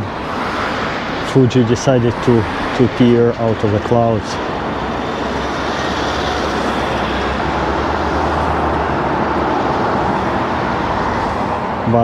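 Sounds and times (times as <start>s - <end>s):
road traffic rushing by: 0.0s - 12.0s.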